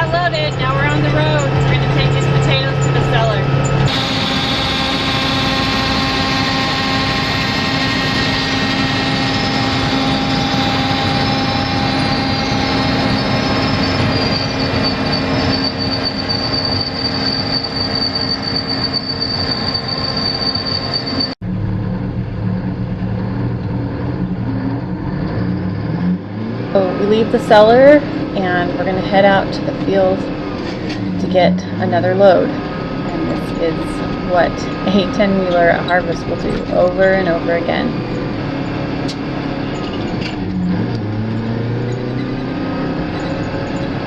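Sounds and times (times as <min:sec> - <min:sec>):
heavy machinery running: 0:00.0 - 0:44.0
high mechanical whine: 0:00.0 - 0:44.0.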